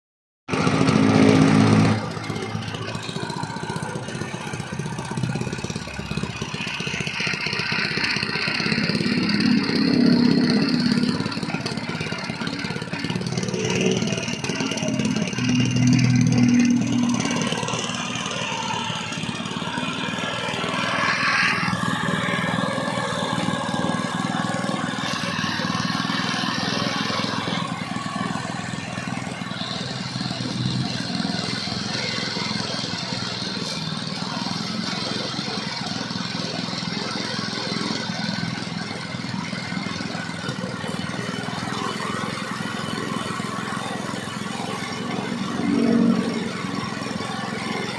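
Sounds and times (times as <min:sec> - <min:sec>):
petrol engine running: 0:00.5 - 0:47.9.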